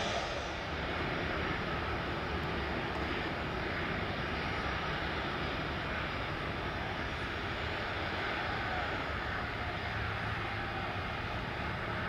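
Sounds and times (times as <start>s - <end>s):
distant jet engines rushing: 0.0s - 12.0s.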